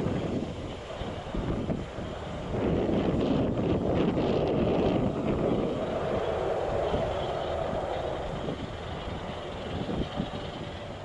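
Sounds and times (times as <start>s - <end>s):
distant aircraft engine rumble: 0.0s - 11.0s
wind buffeting microphone: 0.0s - 11.0s.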